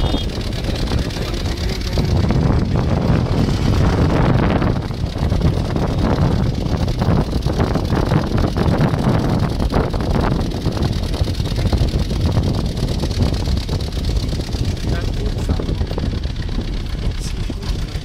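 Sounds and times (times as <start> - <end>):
engine and road rumble: 0.0 - 18.0
wind buffeting microphone: 0.0 - 18.0.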